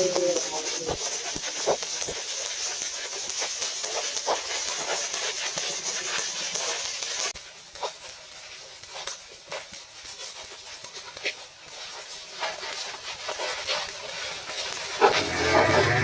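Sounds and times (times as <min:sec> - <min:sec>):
cooking hiss: 0:00.0 - 0:16.0.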